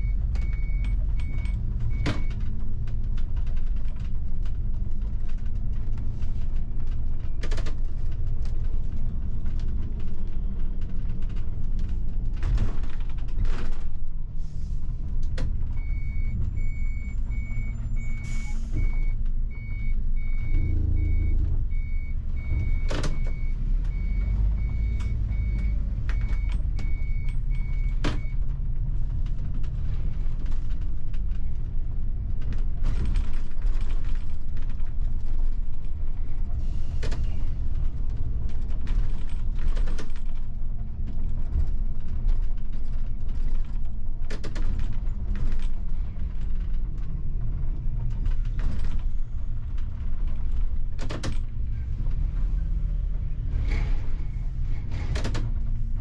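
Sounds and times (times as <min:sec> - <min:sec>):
bus engine and road rumble: 0:00.0 - 0:56.0
cabin rattles and creaks: 0:00.2 - 0:14.3, 0:21.7 - 0:56.0.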